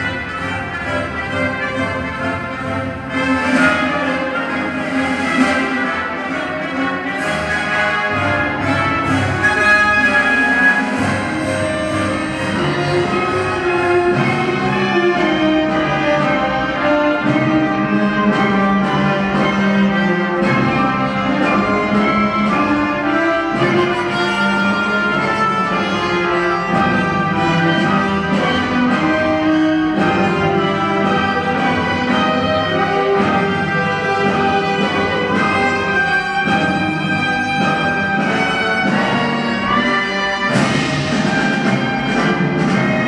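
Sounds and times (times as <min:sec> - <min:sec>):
orchestral music: 0:00.0 - 0:43.0.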